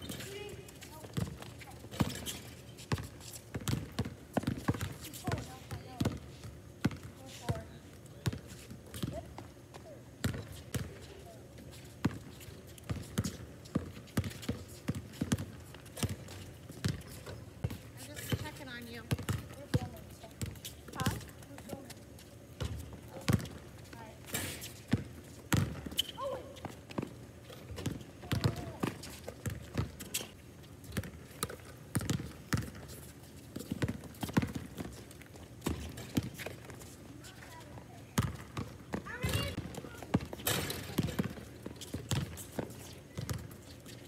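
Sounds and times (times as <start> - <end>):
basketball bouncing on court: 0.0 - 2.3, 2.9 - 9.5, 10.2 - 11.0, 12.9 - 21.9, 22.6 - 24.1, 24.9 - 27.1, 27.7 - 30.0, 30.9 - 32.9, 33.6 - 34.9, 35.6 - 36.8, 37.4 - 43.6.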